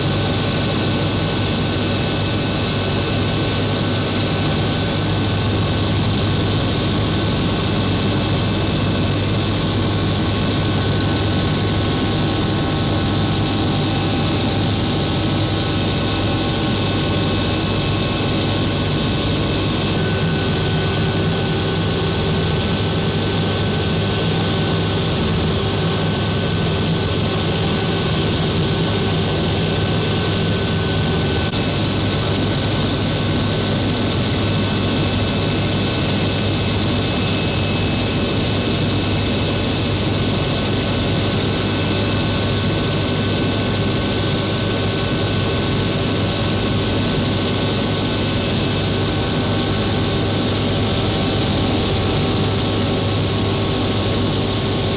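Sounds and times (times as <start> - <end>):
helicopter rotor drone: 0.0 - 54.9
helicopter turbine whine: 0.0 - 54.9.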